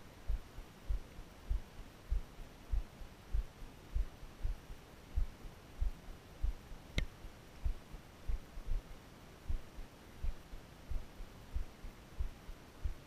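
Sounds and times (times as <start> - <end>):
low heartbeat-like thumps: 0.3 - 6.6, 7.6 - 8.9, 9.5 - 13.0.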